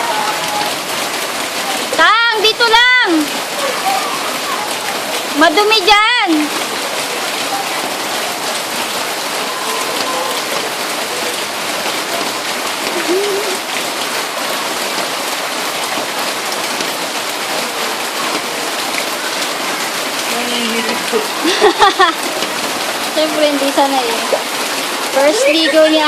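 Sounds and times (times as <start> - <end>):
rain pouring: 0.0 - 26.0.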